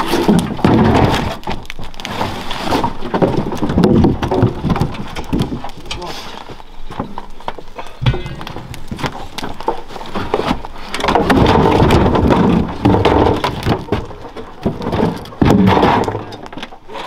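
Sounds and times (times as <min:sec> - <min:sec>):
logs thudding onto pile: 0:00.0 - 0:16.8.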